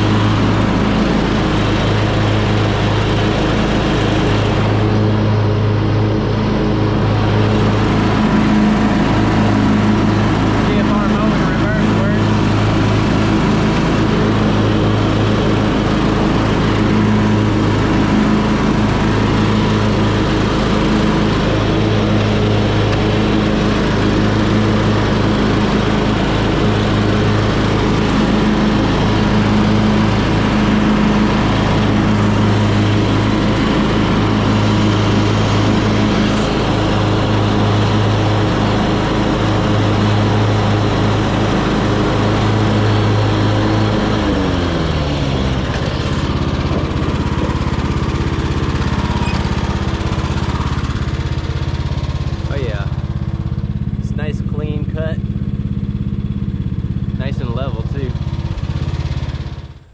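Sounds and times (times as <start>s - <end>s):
riding tractor engine droning: 0.0s - 59.9s.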